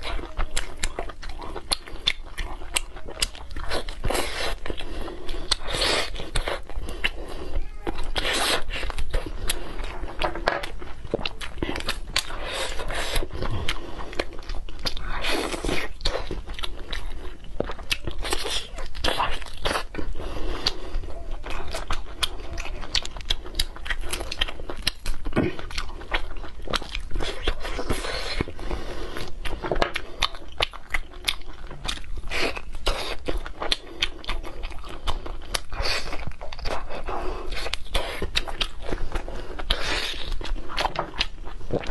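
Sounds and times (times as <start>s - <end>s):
person chewing ribs: 0.0s - 41.9s.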